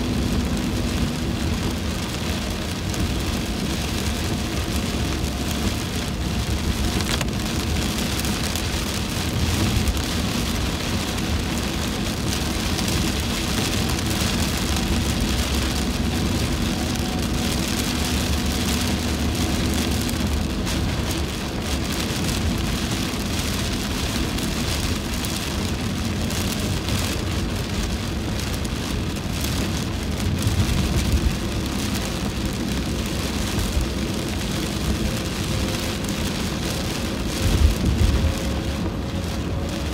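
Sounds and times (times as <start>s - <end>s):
heavy rain on car roof: 0.0s - 39.9s
low rumble of car on wet road: 0.0s - 39.9s.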